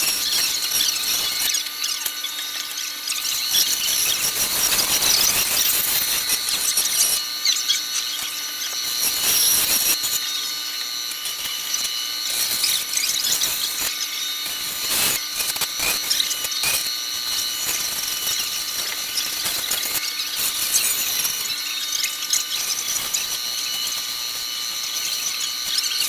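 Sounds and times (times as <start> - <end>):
power tool whining: 0.0 - 26.0.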